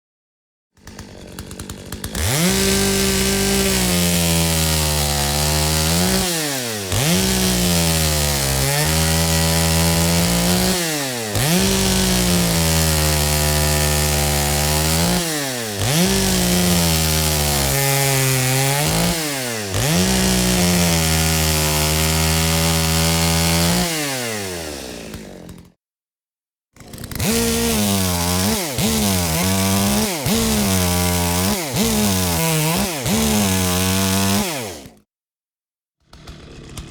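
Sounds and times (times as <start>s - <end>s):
chainsaw engine revving: 0.8s - 25.8s, 26.8s - 35.0s, 36.1s - 36.9s.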